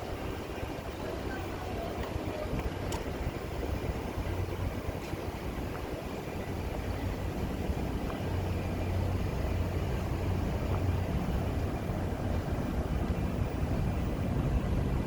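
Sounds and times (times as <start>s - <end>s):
low machinery hum: 0.0s - 15.0s
rushing rumbling noise: 0.0s - 15.0s.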